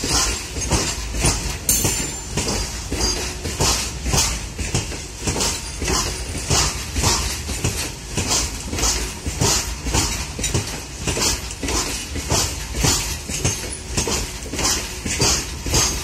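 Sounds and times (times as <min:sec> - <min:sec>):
freight wagons rumbling: 0:00.0 - 0:16.0
wheels clattering over rail joints: 0:00.0 - 0:16.0.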